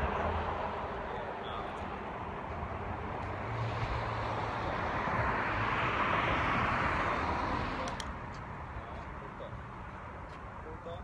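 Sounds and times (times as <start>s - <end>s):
vehicle passing by: 0.0s - 10.2s.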